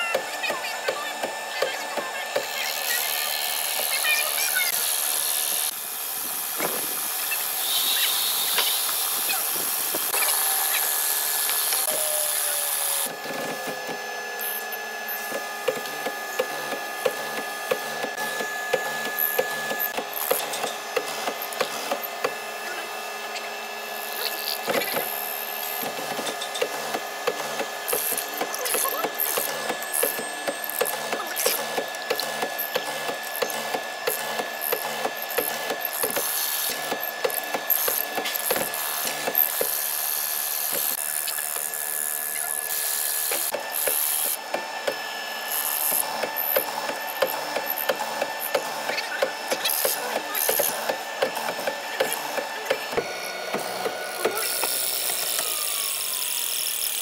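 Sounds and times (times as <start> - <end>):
motor whine: 0.0 - 57.0.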